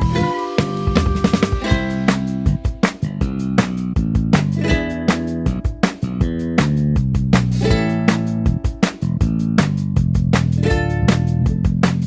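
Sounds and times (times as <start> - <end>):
upbeat guitar and drum music: 0.0 - 12.0.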